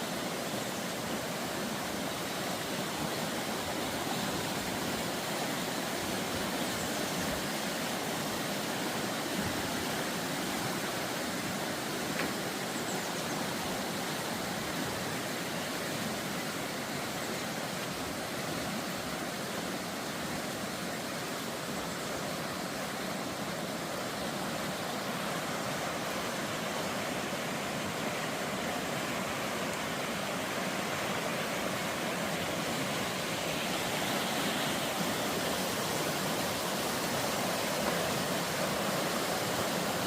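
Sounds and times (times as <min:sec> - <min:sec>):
fast-flowing water rushing: 0:00.0 - 0:40.0.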